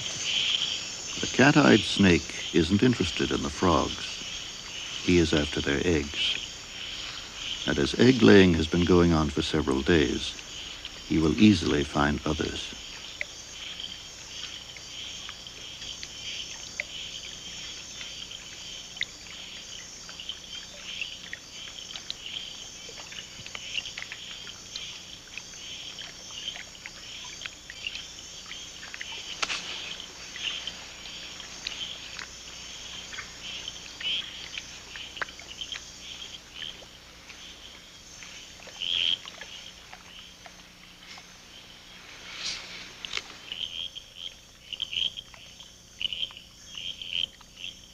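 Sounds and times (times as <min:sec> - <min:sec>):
frogs and insects chirping: 0:00.0 - 0:47.9.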